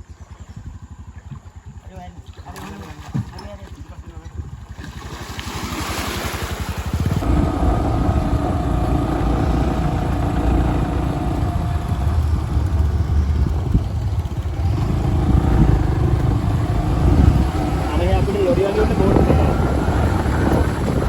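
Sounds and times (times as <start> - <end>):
motor engine running: 0.0 - 21.0.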